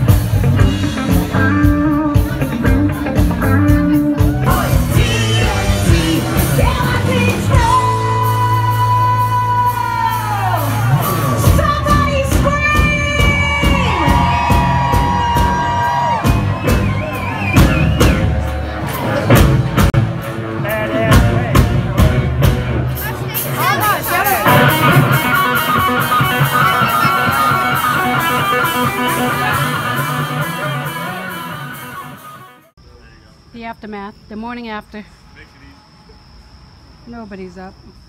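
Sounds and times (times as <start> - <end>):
drum kit: 0.0 - 32.4
bass guitar: 0.0 - 32.7
electric guitar: 0.0 - 32.7.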